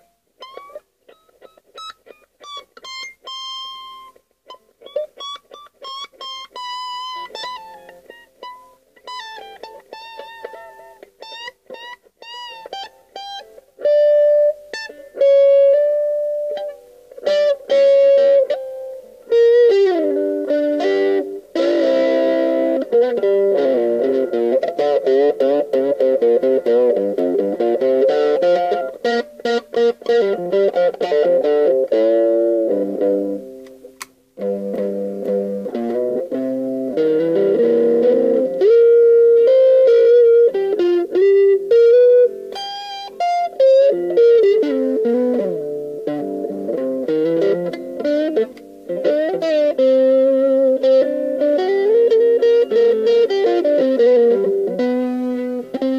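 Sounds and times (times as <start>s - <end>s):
overdriven electric guitar: 0.0s - 55.9s.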